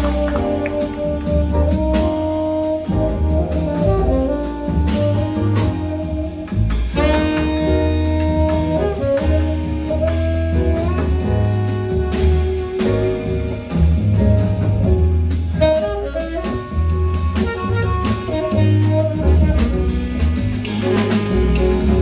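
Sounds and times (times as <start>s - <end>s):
tenor saxophone melody: 0.0s - 13.7s, 15.6s - 20.8s
drums with cymbals: 0.0s - 22.0s
piano: 0.0s - 22.0s
upright bass: 0.0s - 22.0s.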